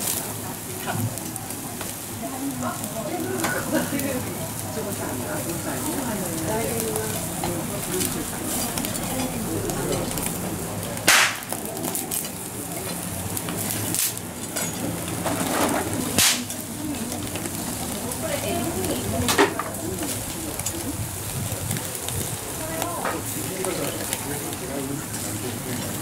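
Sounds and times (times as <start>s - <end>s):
eel sizzling on charcoal grill: 0.0s - 26.0s.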